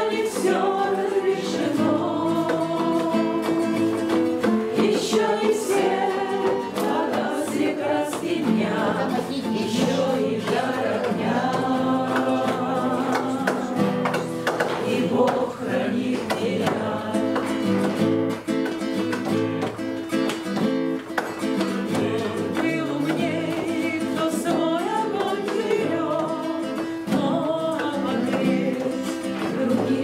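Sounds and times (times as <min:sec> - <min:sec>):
people singing together: 0:00.0 - 0:19.3, 0:21.3 - 0:30.0
strummed acoustic guitar: 0:00.0 - 0:30.0.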